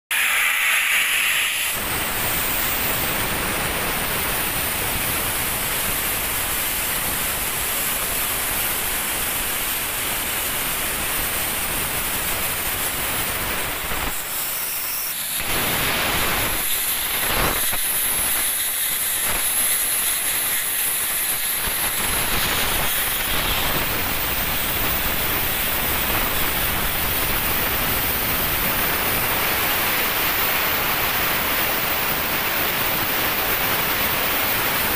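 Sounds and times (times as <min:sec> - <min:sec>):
plasma torch hissing: 0:00.1 - 0:34.8.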